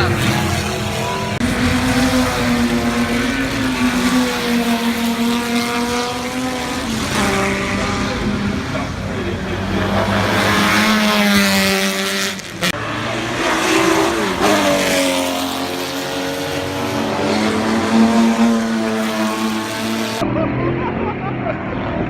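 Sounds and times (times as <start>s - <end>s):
racing car engines passing: 0.0s - 22.0s.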